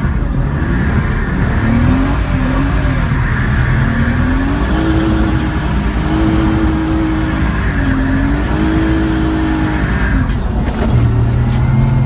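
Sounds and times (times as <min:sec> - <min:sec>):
car engine revving hard: 0:00.0 - 0:12.0
music playing: 0:00.0 - 0:12.0.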